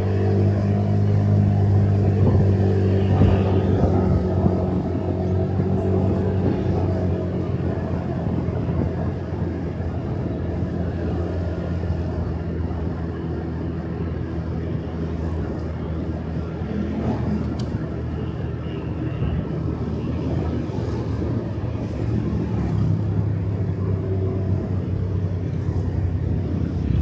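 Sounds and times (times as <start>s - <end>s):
road noise: 0.0s - 27.0s.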